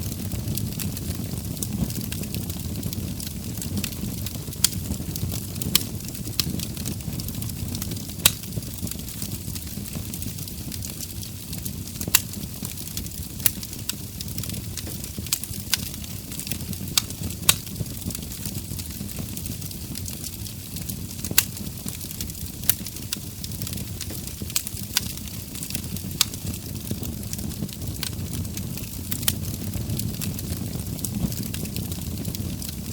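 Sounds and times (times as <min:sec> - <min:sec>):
logs crackling and popping: 0:00.0 - 0:32.9
low rumble of flames: 0:00.0 - 0:32.9.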